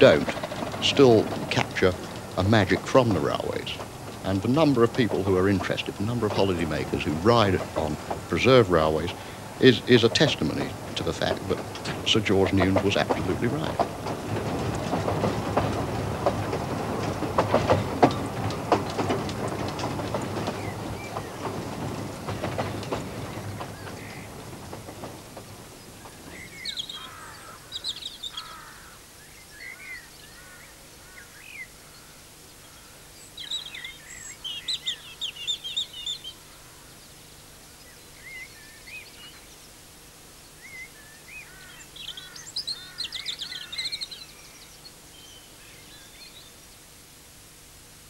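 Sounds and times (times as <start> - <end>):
songbird chirping and trilling: 0.0 - 46.9.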